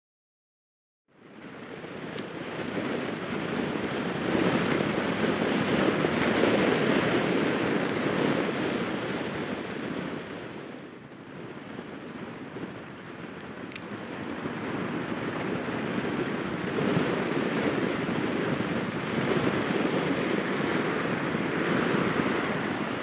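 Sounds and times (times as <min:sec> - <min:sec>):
wind buffeting microphone: 0:01.2 - 0:23.0.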